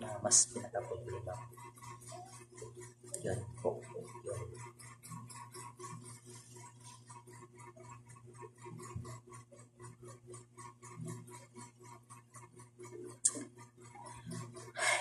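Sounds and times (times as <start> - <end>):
rapid even ticking: 0.0 - 15.0
steady low hum: 0.0 - 15.0.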